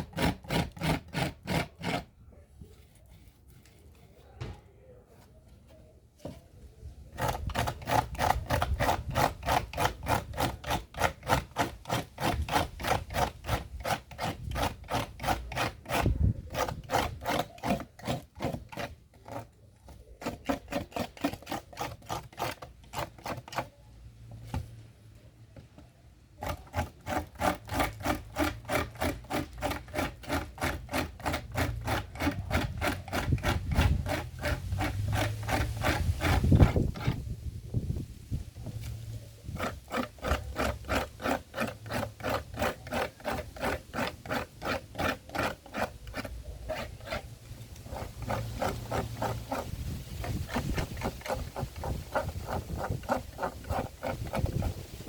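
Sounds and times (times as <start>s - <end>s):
hand tool scraping: 0.0s - 55.0s.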